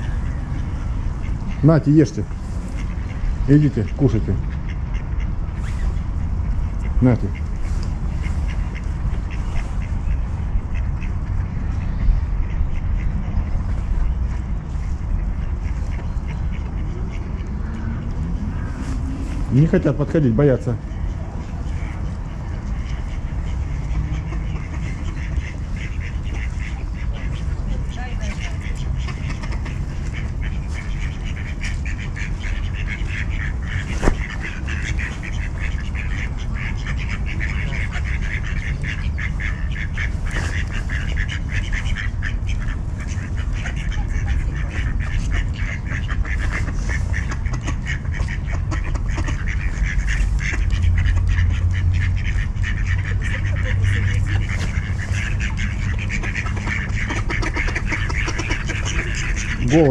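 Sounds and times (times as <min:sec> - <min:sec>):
ducks quacking: 0:00.0 - 0:59.9
steady low rumble: 0:00.0 - 0:59.9.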